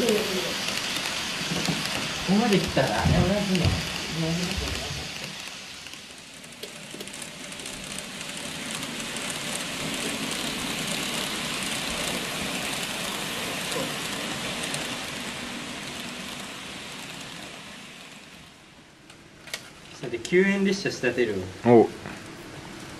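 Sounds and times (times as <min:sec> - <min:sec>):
model trains rattling past: 0:00.0 - 0:19.1.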